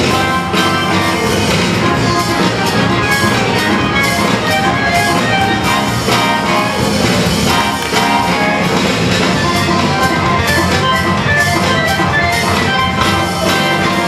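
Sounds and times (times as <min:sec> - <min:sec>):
breakbeat music with drum beat: 0:00.0 - 0:14.0.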